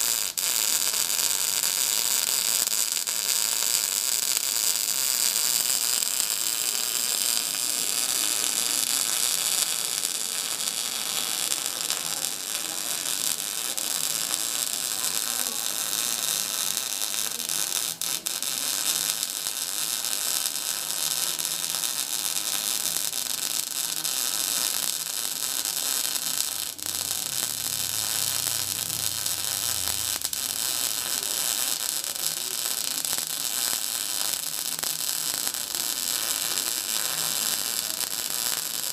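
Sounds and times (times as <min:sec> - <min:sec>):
arc welding crackling and hissing: 0:00.0 - 0:38.9.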